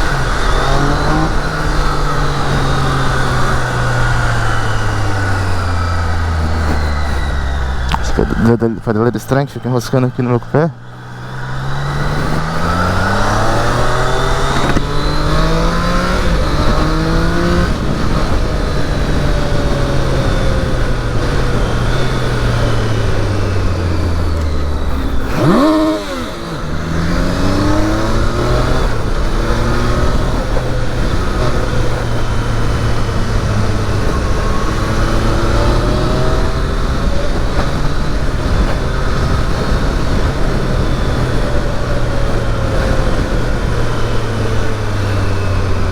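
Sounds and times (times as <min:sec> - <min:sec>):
motorcycle engine accelerating: 0:00.0 - 0:45.9
wind and road noise: 0:00.0 - 0:45.9.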